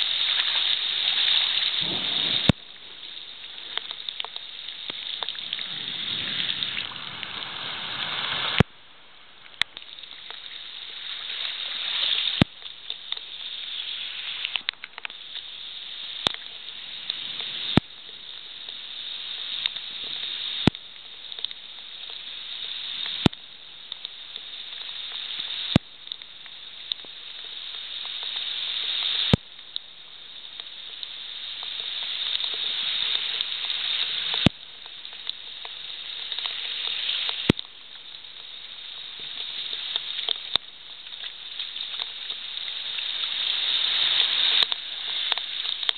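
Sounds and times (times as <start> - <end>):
rain pouring on pavement: 0.0 - 45.9.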